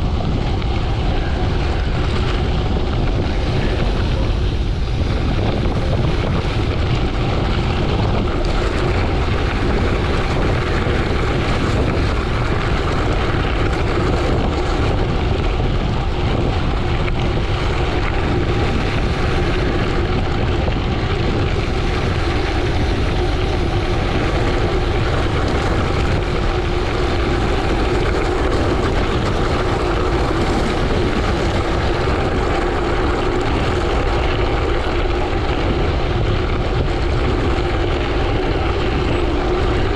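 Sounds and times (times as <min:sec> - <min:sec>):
bike tyre rumble on gravel: 0:00.0 - 0:39.9
wind on microphone: 0:00.0 - 0:39.9.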